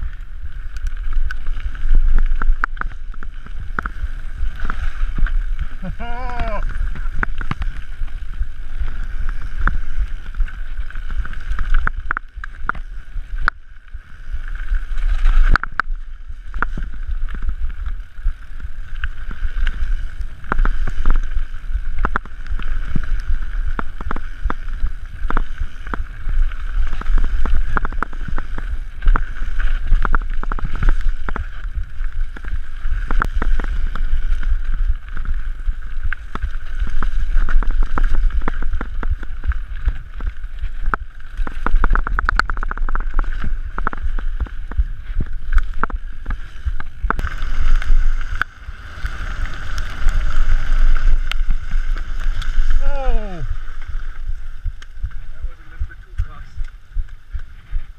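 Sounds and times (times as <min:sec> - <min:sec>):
bike knocking and rattling: 0:00.0 - 0:14.0, 0:14.6 - 0:57.9
wind and tyre rumble: 0:00.0 - 0:57.9.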